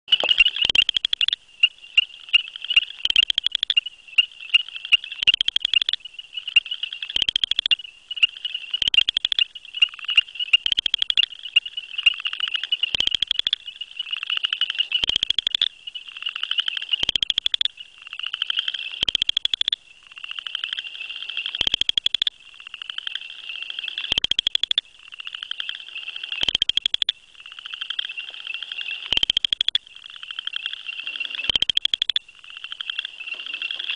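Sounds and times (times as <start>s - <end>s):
frog pulsed trill: 0.1s - 33.9s.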